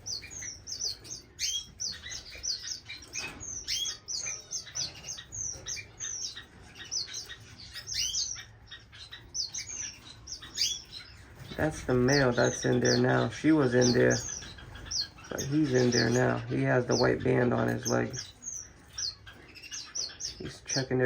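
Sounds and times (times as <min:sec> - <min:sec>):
flock of finches chirping: 0:00.0 - 0:21.0.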